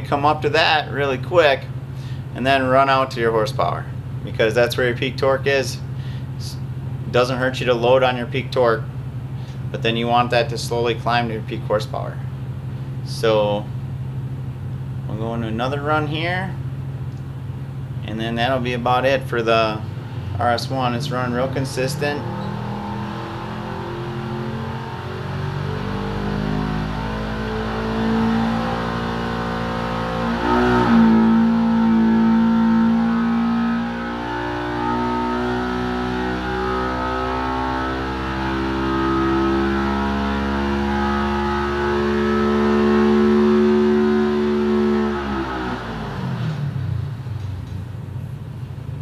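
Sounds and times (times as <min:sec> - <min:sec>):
motorcycle engine revving on dyno: 0:00.0 - 0:47.9.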